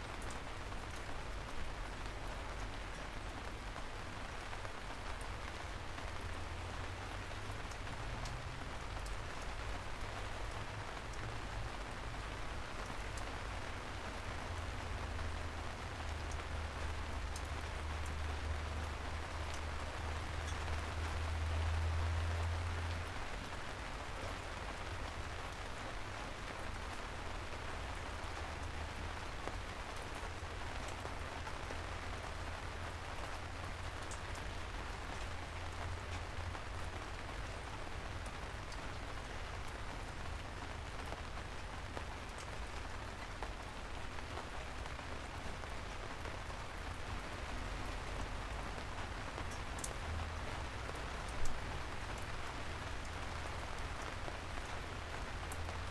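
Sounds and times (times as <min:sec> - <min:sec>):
rain falling: 0:00.0 - 0:55.9
raindrop ticks: 0:00.1 - 0:55.9.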